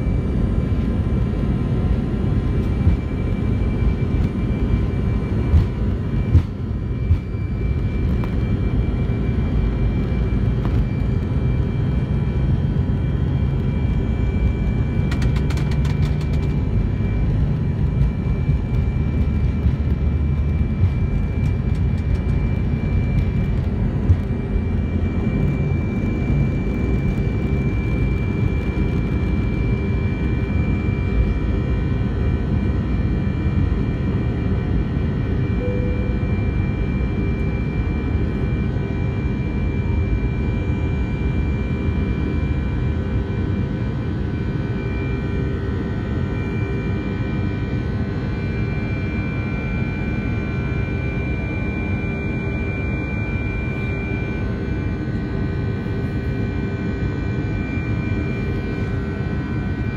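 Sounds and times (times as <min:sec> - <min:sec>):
jet engine rumble and whine: 0:00.0 - 0:59.9.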